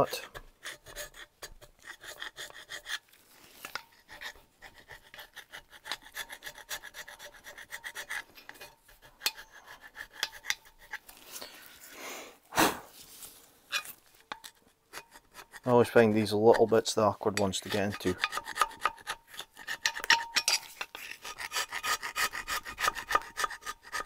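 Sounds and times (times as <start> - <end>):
gasket scraper scraping metal: 0.0 - 3.0, 3.6 - 11.1, 13.7 - 24.0.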